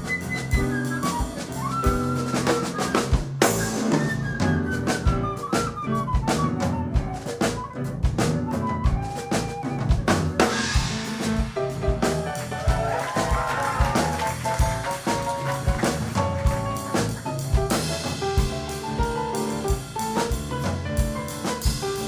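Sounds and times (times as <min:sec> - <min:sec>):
bass notes: 0:00.0 - 0:22.0
drum kit steady beat: 0:00.0 - 0:22.0
live band playing: 0:00.0 - 0:22.0.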